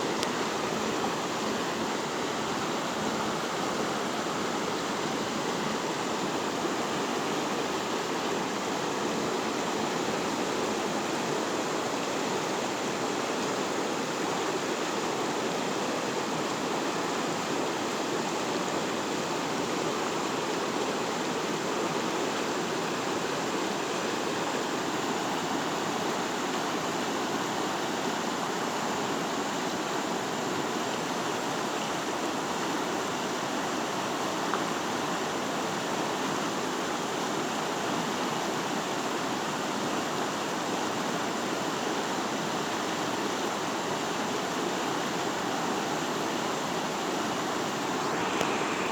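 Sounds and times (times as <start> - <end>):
river rushing over rocks: 0.0 - 48.9.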